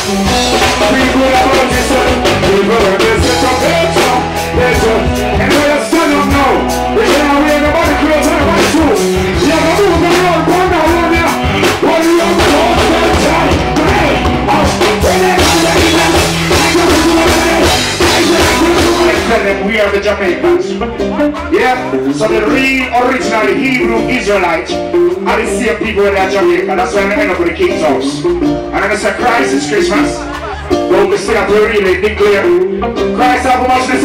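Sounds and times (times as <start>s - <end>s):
drum kit: 0.0s - 34.0s
man singing into a microphone: 0.0s - 34.0s
reggae band playing: 0.0s - 34.0s.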